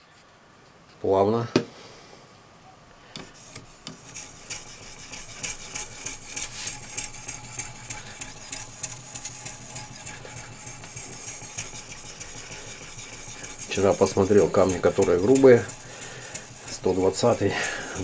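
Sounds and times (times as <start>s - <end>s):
sharpening stone scraping knife: 3.4s - 18.0s.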